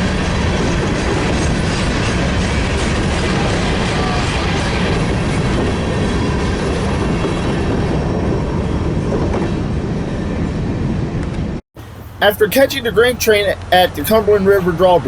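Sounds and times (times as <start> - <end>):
train wheels on rails: 0.0 - 14.2.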